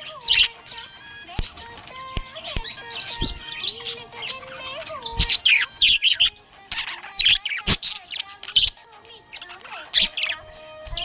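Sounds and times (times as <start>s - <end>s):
budgerigar chirping and warbling: 0.0s - 11.0s.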